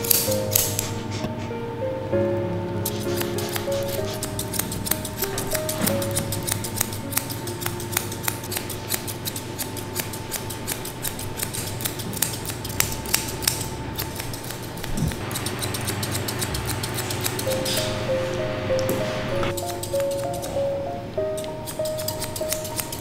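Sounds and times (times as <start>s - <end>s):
scissors snipping hair: 0.0s - 1.0s, 2.8s - 17.9s, 19.5s - 20.7s, 21.3s - 23.0s.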